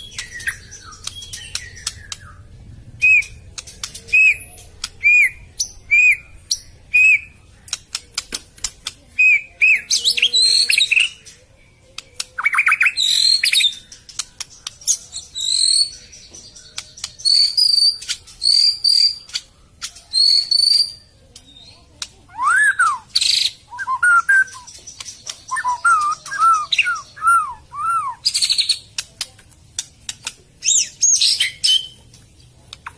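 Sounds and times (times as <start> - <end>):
songbird singing whistles and chirps: 0.0 - 7.8, 9.1 - 29.0, 30.2 - 32.2.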